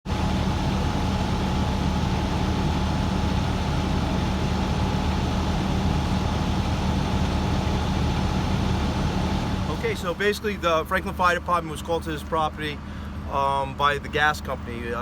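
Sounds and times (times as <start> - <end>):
engine idling with whine: 0.1 - 15.0.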